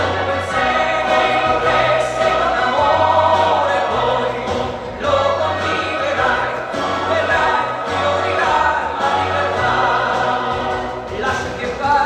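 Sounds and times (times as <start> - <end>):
bass line: 0.0 - 12.0
choir-like singing: 0.0 - 12.0.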